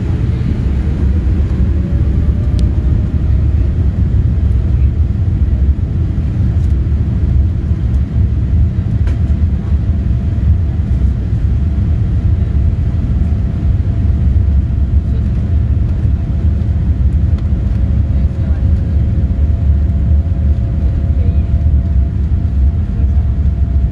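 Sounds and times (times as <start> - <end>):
airplane cabin deep rumble: 0.0 - 23.9.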